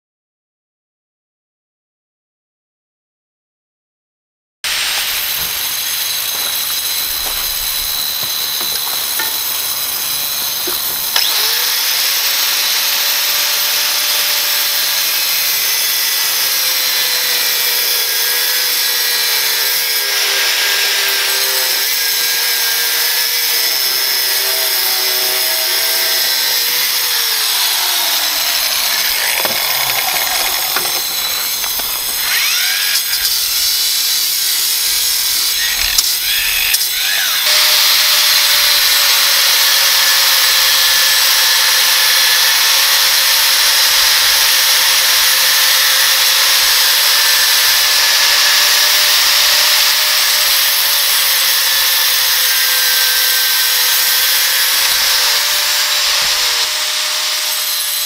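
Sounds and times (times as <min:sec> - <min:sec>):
angle grinder cutting steel: 0:04.7 - 0:58.0.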